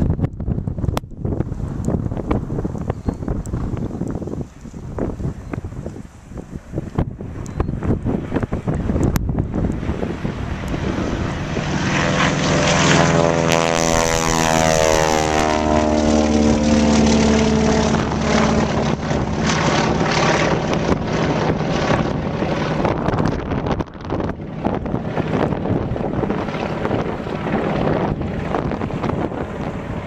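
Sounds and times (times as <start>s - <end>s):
biplane engine passing by: 1.5s - 30.0s.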